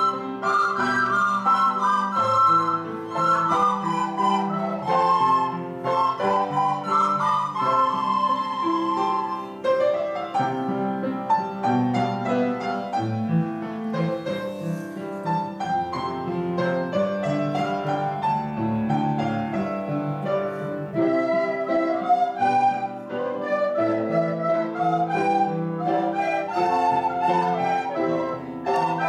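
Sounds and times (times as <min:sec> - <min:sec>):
piano accompaniment: 0:00.0 - 0:29.0
recorders playing a melody: 0:00.0 - 0:29.0.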